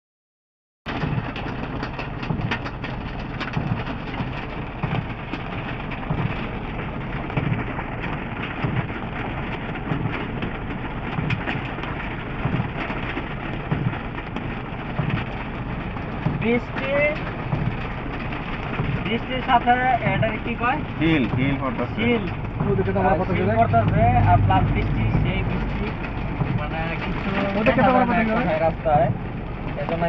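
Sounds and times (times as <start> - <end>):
hail clattering on car roof: 0.9 - 30.0
rain hissing: 0.9 - 30.0.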